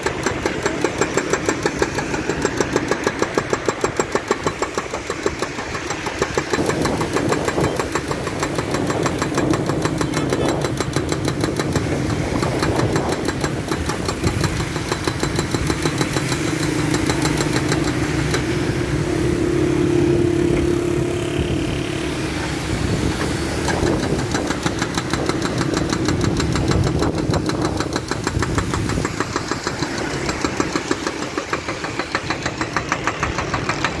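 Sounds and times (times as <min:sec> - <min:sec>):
diesel engine running: 0:00.0 - 0:34.0
hydraulic breaker hammering pavement: 0:00.0 - 0:34.0.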